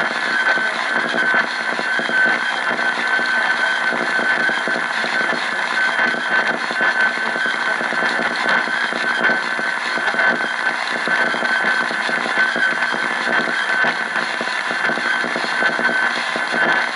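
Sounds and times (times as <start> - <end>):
high radio whistle: 0.0 - 16.9
radio static: 0.0 - 16.9.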